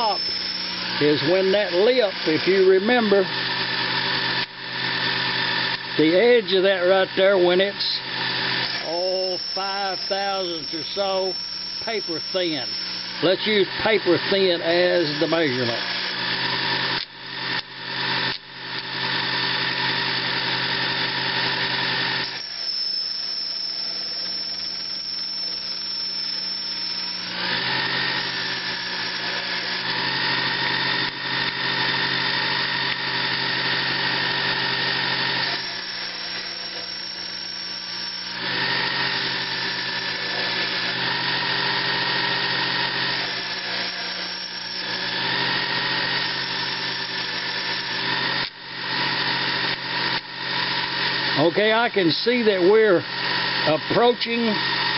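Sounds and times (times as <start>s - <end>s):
lathe cutting metal: 0.0s - 54.9s.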